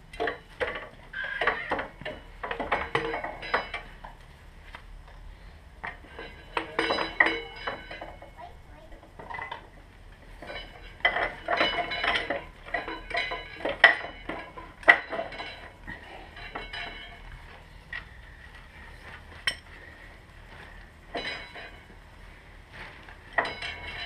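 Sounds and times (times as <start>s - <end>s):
metal tools clinking and clanking: 0.1s - 4.2s, 5.8s - 22.1s, 22.7s - 24.0s.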